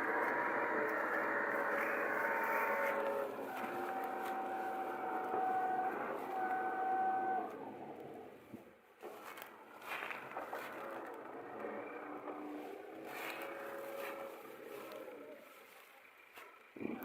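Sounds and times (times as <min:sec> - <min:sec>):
steady whine: 0:00.0 - 0:17.0
vehicle engine running: 0:00.0 - 0:17.0.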